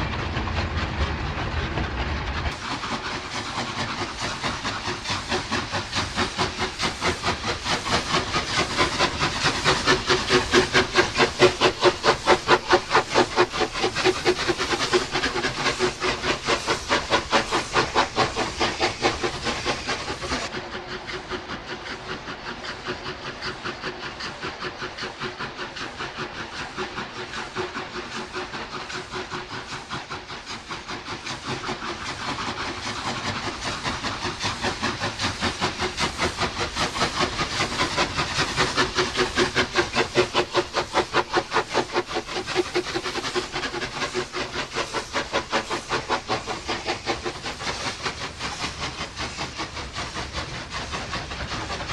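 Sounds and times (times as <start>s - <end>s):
steam hiss: 0.0s - 51.9s
steam locomotive chuffing: 0.0s - 51.9s.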